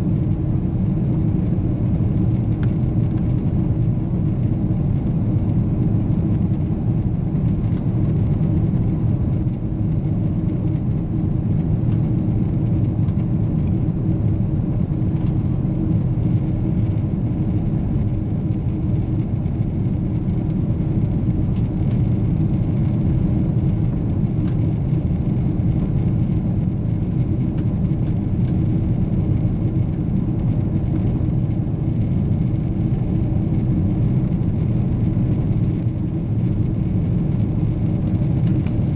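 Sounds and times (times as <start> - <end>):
constant hum: 0.0 - 38.9
jet engines rumbling: 0.0 - 38.9.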